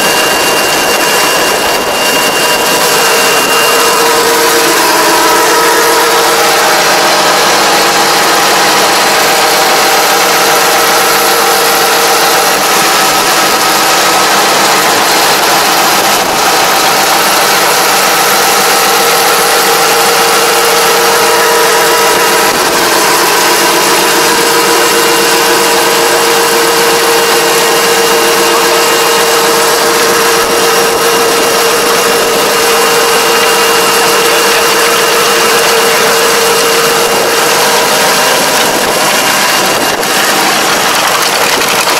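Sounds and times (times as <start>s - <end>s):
tractor engine humming: 0.0s - 41.9s.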